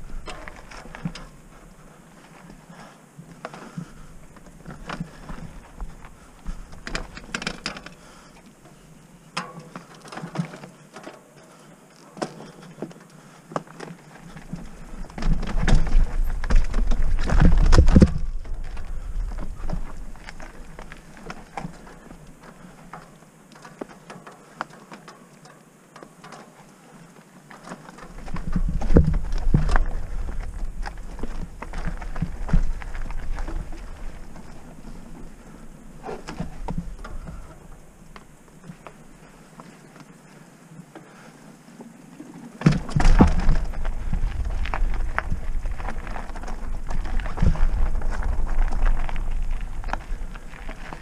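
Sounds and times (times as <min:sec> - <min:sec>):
bike rattling: 0:00.0 - 0:51.0
bike tyres crunching on gravel: 0:00.0 - 0:51.0.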